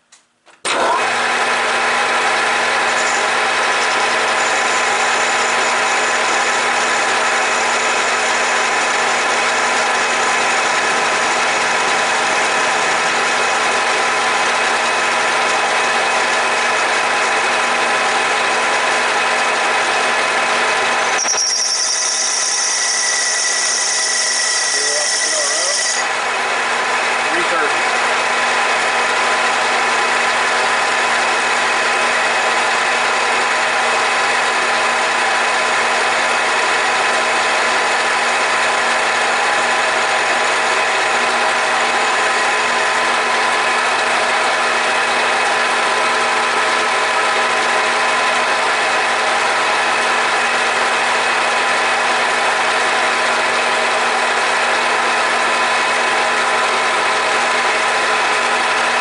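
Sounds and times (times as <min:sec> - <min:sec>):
lathe machine whine: 0:00.7 - 0:59.0.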